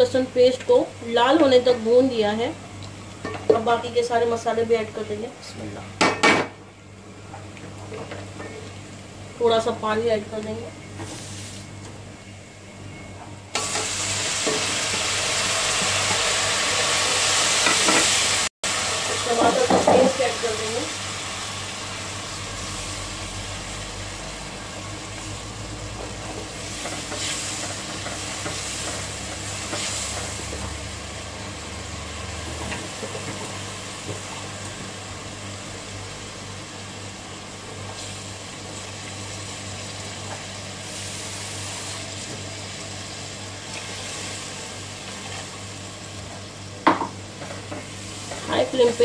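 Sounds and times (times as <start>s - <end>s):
masala sizzling and bubbling: 0.0s - 49.0s.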